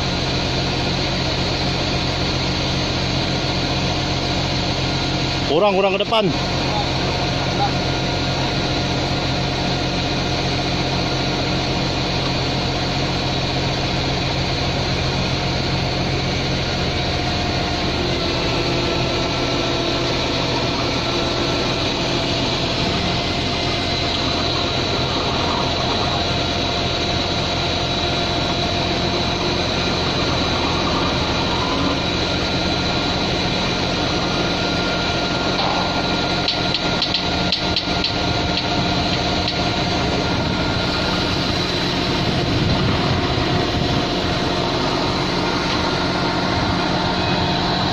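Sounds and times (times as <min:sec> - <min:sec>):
vehicle engine idling: 0:00.0 - 0:47.9.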